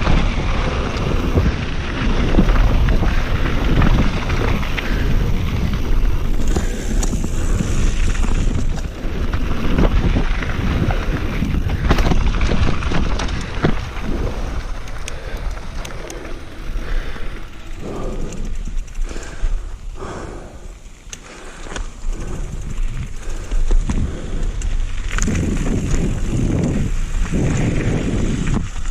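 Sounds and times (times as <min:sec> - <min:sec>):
bike rattling and knocking: 0:00.0 - 0:20.5, 0:21.2 - 0:28.9
bike tyres on dirt and rock: 0:00.0 - 0:28.9.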